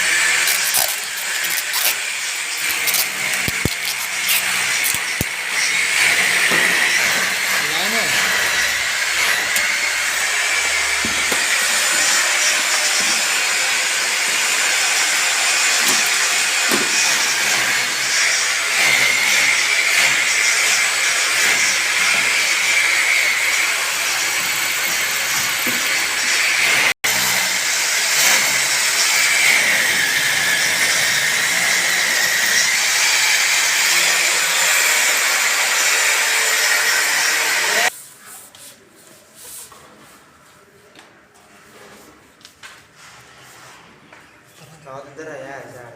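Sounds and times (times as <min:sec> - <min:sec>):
power tool whining: 0:00.0 - 0:37.9.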